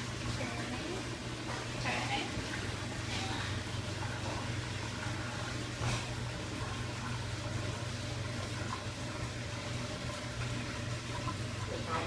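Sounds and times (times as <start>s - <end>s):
continuous low hum: 0.0s - 12.0s
water draining rushing: 0.0s - 12.0s.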